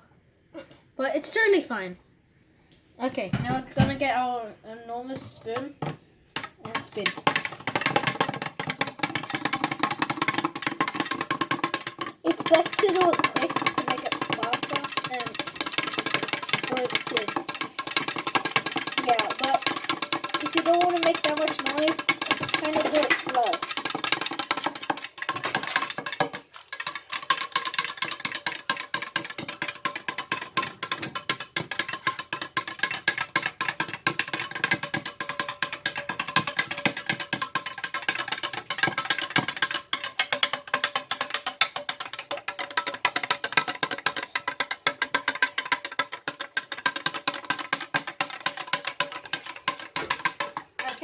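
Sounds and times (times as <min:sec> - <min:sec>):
spoon stirring in a jug: 0:05.0 - 0:51.0.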